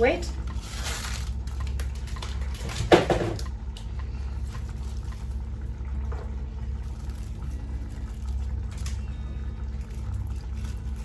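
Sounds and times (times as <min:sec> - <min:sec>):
steady low hum: 0:00.0 - 0:11.0
water pouring and splashing: 0:00.3 - 0:11.0.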